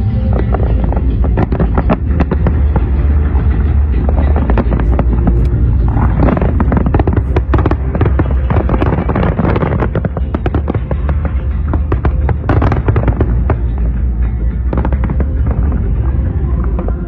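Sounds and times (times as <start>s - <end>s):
fireworks bangs and crackling: 0.0s - 17.0s
steady low rumble: 0.0s - 17.0s.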